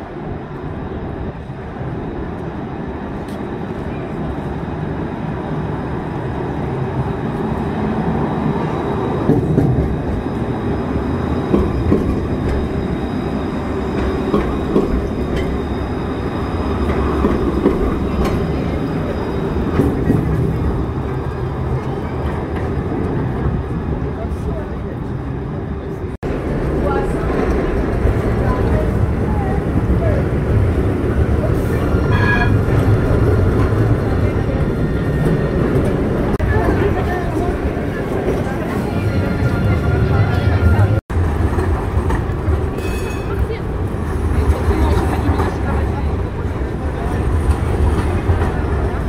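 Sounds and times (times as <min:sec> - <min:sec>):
tram wheels rumbling on rails: 0:00.0 - 0:49.0.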